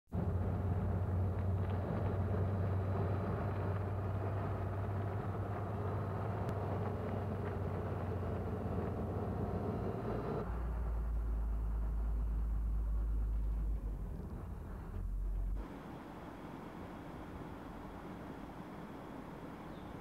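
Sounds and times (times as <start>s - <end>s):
vehicle engine running: 0.1s - 20.0s.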